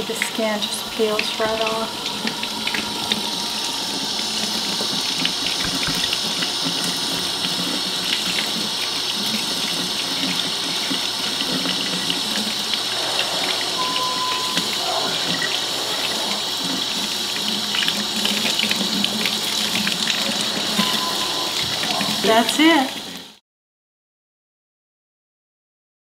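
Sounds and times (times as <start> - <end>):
faucet running into a steel sink: 0.0 - 23.4.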